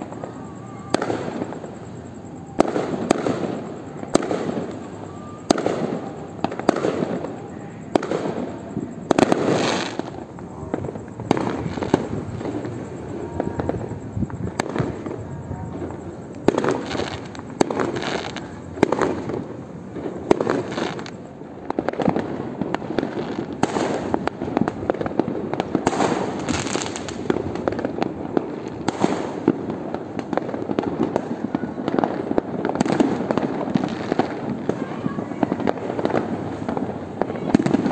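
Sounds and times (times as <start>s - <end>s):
firecrackers crackling: 0.0s - 37.9s
firework bangs: 0.0s - 37.9s.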